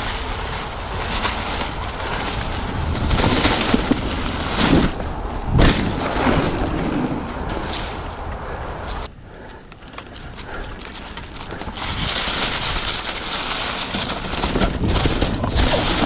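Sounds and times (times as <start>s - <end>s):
bike tyres crunching through leaves: 0.0s - 16.0s.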